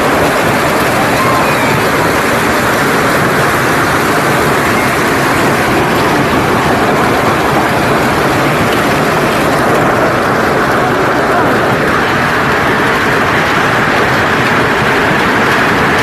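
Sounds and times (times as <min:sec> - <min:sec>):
strong wind rushing: 0:00.0 - 0:16.0.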